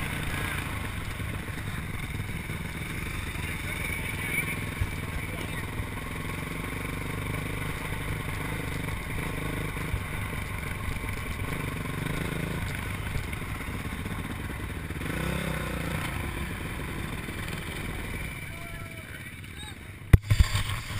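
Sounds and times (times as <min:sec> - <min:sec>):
motocross bike engine: 0:00.0 - 0:20.9.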